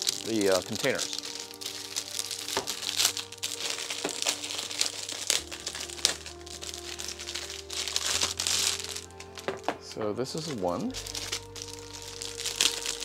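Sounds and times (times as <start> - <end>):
background music: 0.0 - 13.0
plastic wrap crinkling: 0.0 - 13.0.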